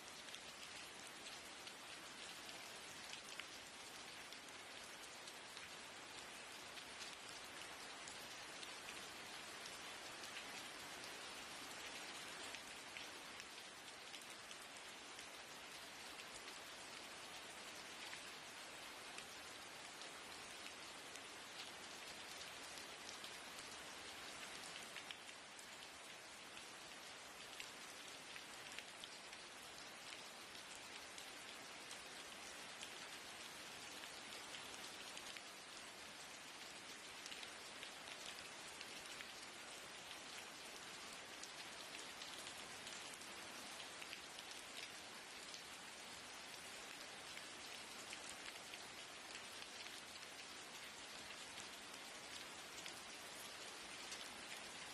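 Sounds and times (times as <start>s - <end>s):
rain on a window: 0.0s - 54.9s.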